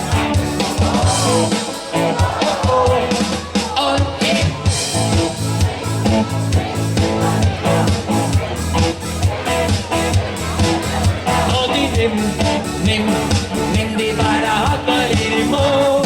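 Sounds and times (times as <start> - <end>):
band playing live: 0.0 - 16.0
steady drum beat: 0.0 - 16.0.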